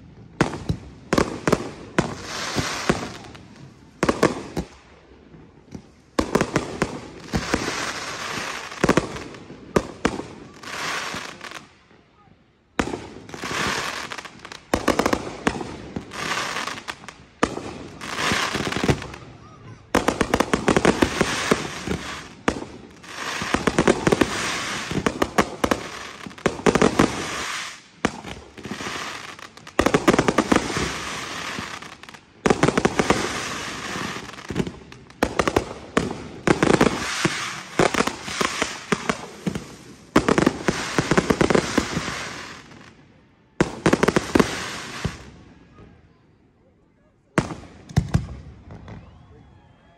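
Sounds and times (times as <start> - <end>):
fireworks popping and crackling: 0.0 - 12.0, 12.7 - 45.5, 47.4 - 49.3.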